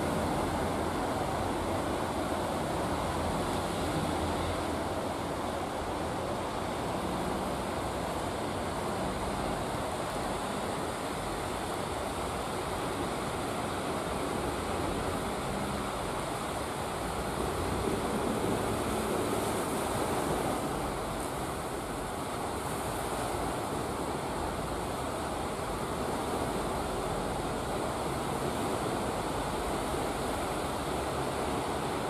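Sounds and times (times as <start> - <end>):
ocean surf breaking: 0.0 - 32.0.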